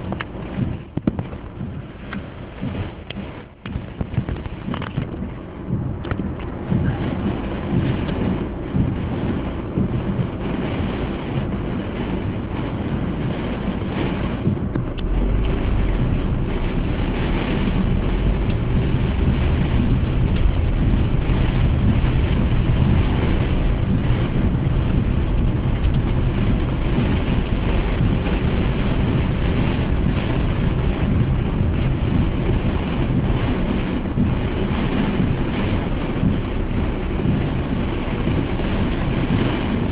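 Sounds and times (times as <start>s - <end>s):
heavy rain and wind on car: 0.0s - 39.9s
low rumble: 0.0s - 39.9s.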